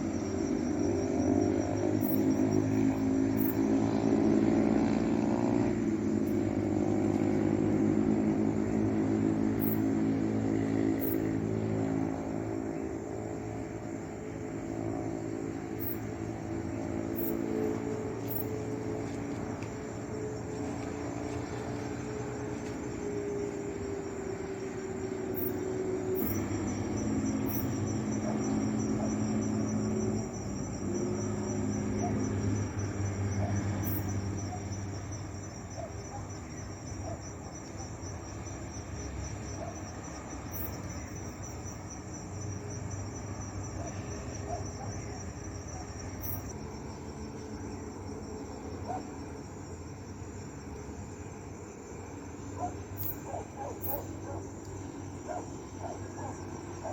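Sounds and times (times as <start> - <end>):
cricket trilling: 0.0 - 56.9.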